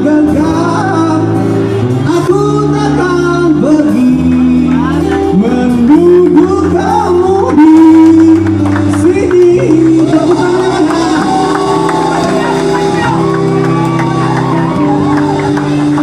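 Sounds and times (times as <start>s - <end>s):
acoustic guitar: 0.0s - 16.0s
electric bass: 0.0s - 16.0s.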